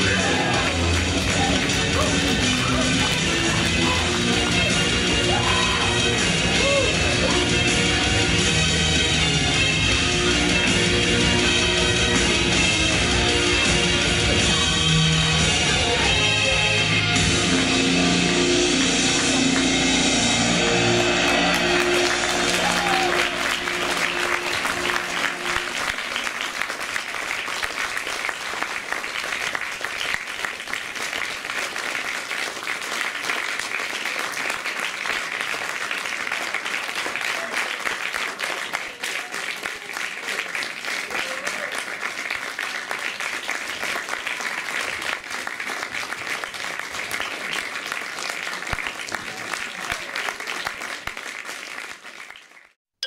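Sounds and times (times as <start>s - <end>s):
audience applauding: 0.0s - 7.8s, 17.5s - 52.8s.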